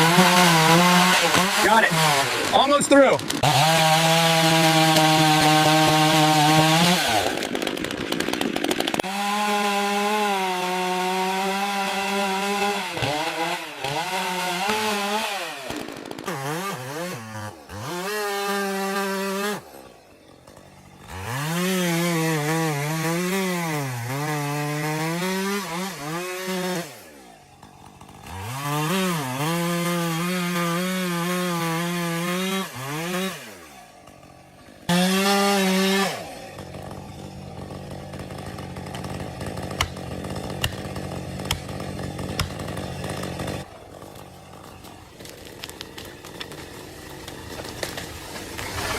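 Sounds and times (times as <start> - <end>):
chainsaw cutting through wood: 0.0 - 48.9.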